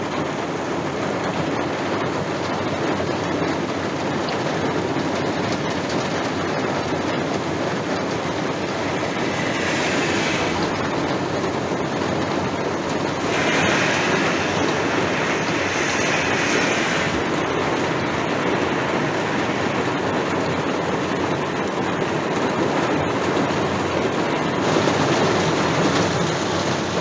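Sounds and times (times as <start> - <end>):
heavy rain falling: 2.8 - 27.0.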